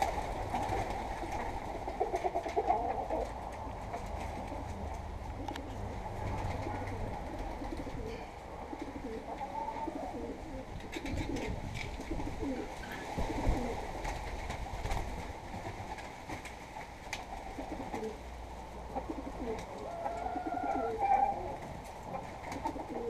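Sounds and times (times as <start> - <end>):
pigeons cooing: 0.0 - 14.2, 17.2 - 23.0.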